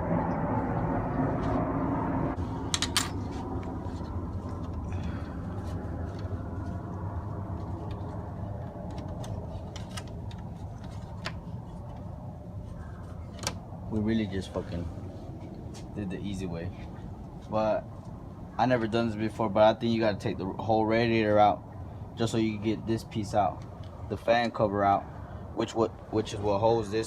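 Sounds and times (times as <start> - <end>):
low background rumble: 0.0 - 26.2.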